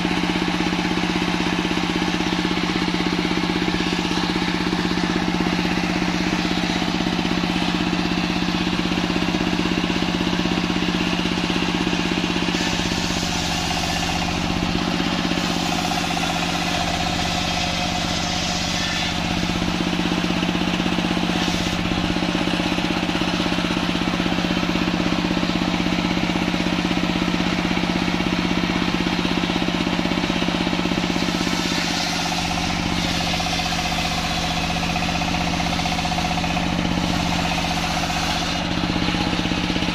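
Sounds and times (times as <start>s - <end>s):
saw blade cutting through log: 0.0s - 25.7s, 29.8s - 39.9s
faint saw whine: 0.0s - 25.9s, 30.6s - 39.9s
diesel engine running: 0.0s - 39.9s.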